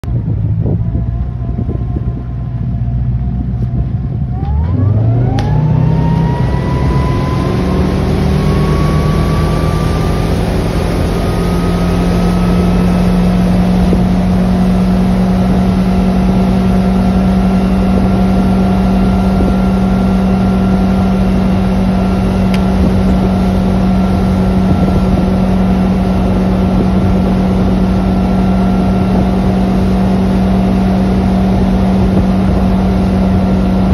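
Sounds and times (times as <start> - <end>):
rush of wind and water: 0.0 - 33.9
boat engine revving: 0.2 - 33.9.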